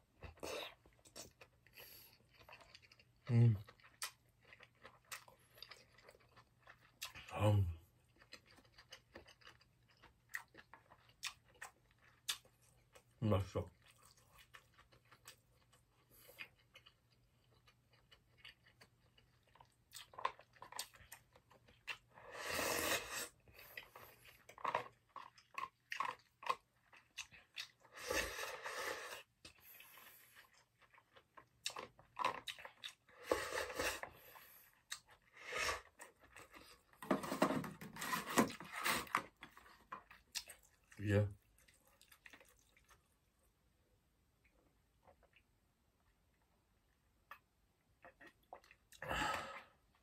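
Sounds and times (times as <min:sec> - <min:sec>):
chewing and mouth noises: 0:00.2 - 0:22.2, 0:22.8 - 0:37.0, 0:38.1 - 0:43.1, 0:47.2 - 0:50.0.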